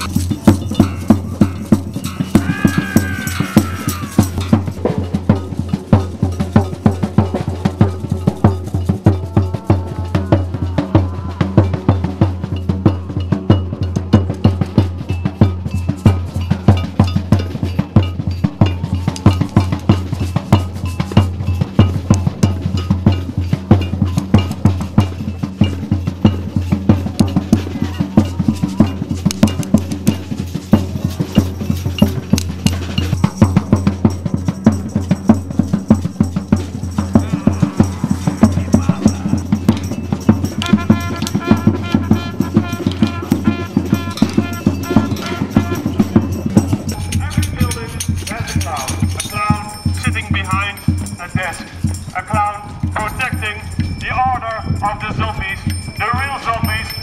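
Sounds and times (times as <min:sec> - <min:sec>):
samba percussion band drumming: 0:00.0 - 0:57.0.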